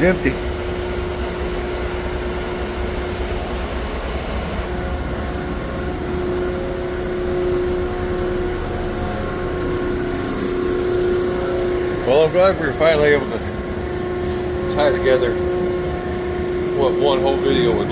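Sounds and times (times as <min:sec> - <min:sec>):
mechanical hum with low rumble: 0:00.0 - 0:17.9.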